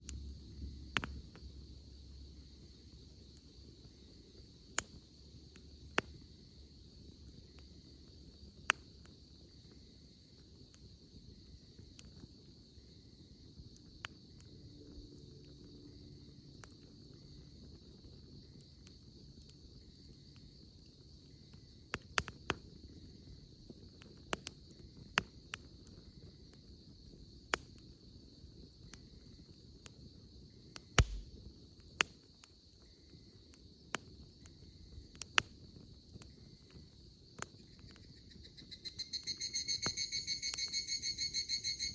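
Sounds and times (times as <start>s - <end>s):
campfire crackling and popping: 0.0s - 41.9s
insects trilling: 0.1s - 41.9s.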